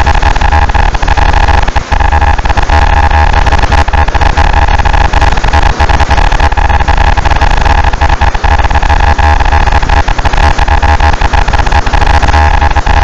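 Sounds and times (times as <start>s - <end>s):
steady mid-pitched tone: 0.0s - 13.0s.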